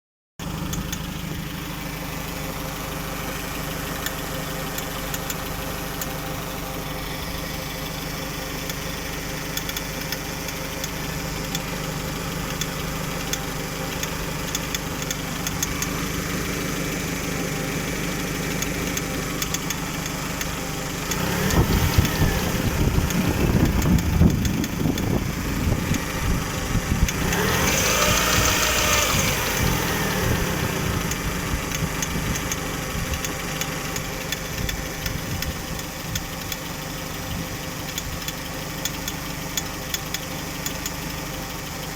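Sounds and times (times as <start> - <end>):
engine knocks and ticks: 0.4 - 41.9
petrol engine idling: 0.4 - 41.9.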